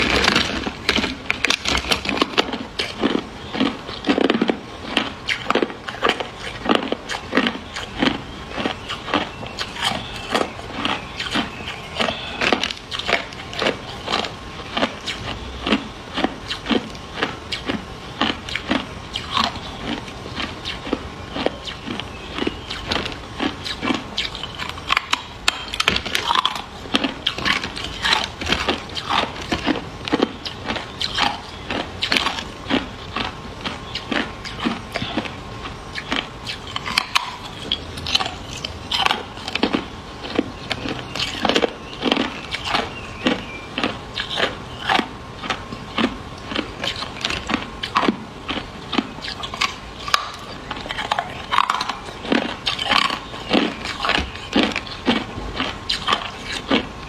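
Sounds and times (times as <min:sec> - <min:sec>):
ice crunching between teeth: 0:00.0 - 0:56.9.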